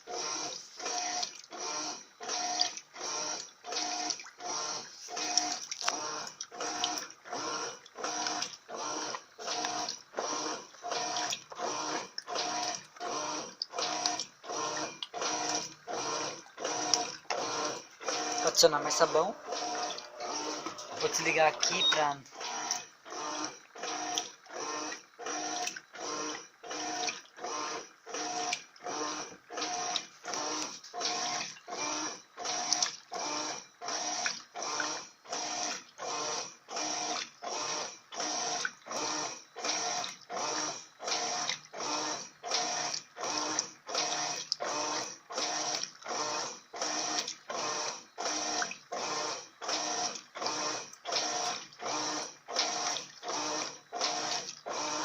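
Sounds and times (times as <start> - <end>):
washing machine agitator swishing: 0.0 - 27.6, 28.3 - 55.0
motor hum: 0.0 - 55.0.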